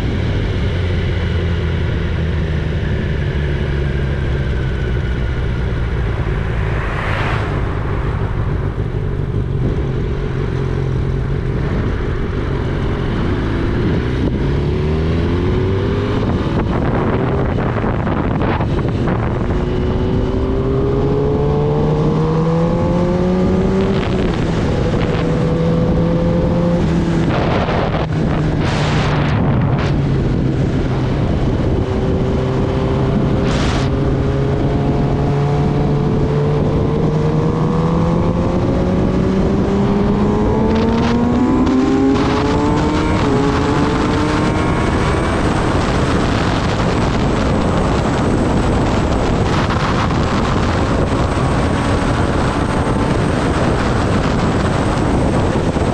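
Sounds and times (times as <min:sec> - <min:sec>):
motorcycle engine revving: 0:00.0 - 0:55.9
wind rushing over microphone: 0:00.0 - 0:55.9.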